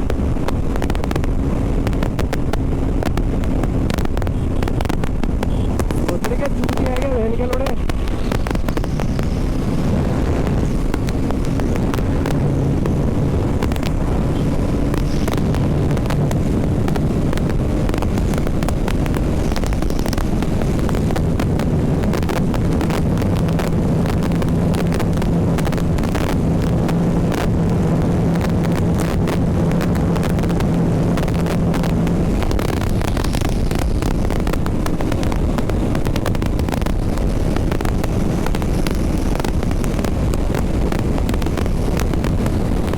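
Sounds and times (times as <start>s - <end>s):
motorcycle engine running: 0.0s - 42.9s
wind rumble on microphone: 0.0s - 42.9s.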